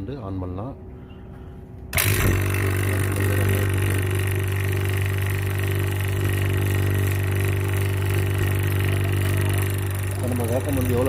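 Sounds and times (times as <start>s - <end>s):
vacuum pump motor hum: 1.8s - 11.0s.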